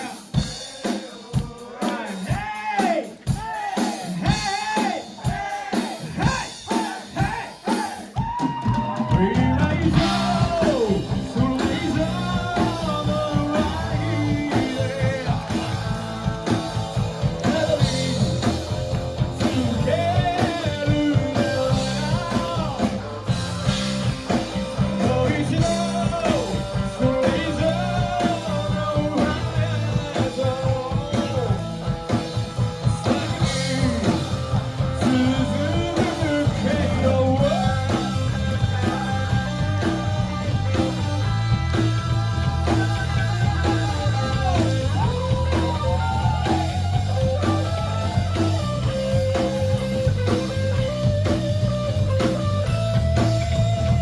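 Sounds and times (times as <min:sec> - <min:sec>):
person singing: 0:00.0 - 0:51.0
drums: 0:00.0 - 0:54.0
live rock band: 0:00.0 - 0:54.0
electric guitar: 0:08.2 - 0:54.0.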